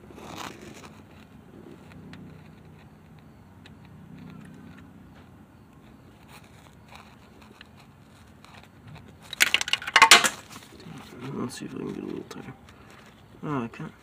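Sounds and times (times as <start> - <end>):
faint handling ticks: 0.2 - 9.6, 10.6 - 14.0.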